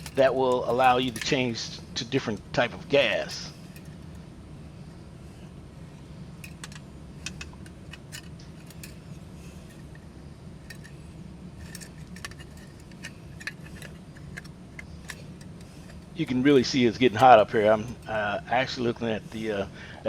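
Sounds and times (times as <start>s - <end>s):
metal parts clinking: 0.0s - 18.3s
steady low hum: 0.0s - 20.0s.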